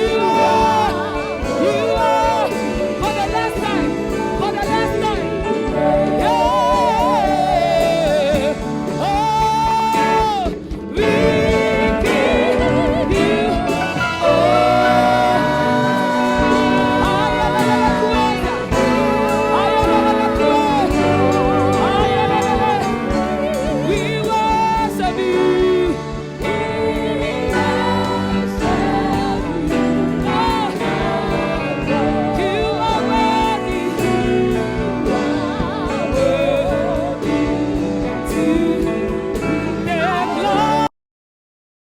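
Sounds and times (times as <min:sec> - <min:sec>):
bass line: 0:00.0 - 0:40.9
person singing with vibrato: 0:00.0 - 0:40.9
sustained keyboard chords: 0:00.0 - 0:40.9.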